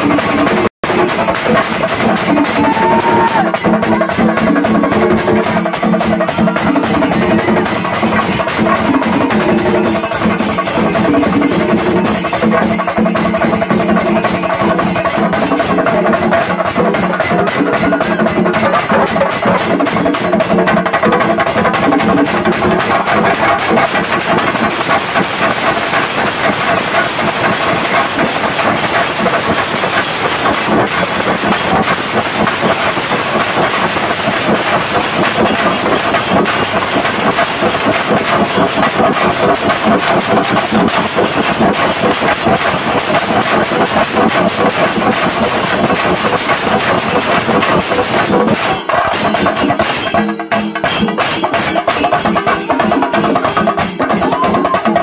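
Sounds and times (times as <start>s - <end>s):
drum ensemble fast roll: 0.0s - 55.0s.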